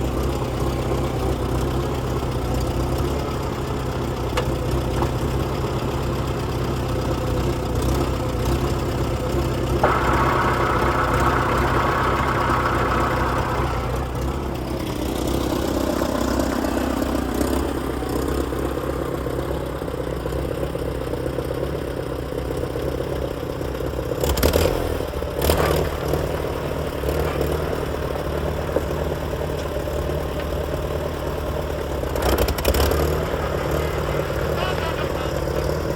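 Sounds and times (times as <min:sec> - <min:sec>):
tractor engine idling: 0:00.0 - 0:35.9.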